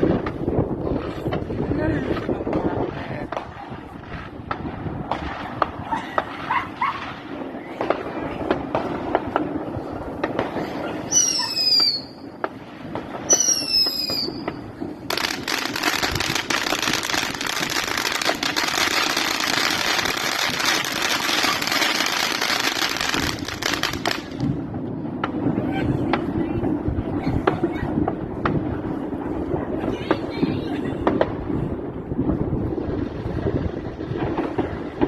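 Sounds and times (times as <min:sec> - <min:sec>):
fireworks banging: 0:00.0 - 0:35.0
hissing crackle of fireworks: 0:00.0 - 0:35.0
whistling fireworks: 0:00.0 - 0:35.0.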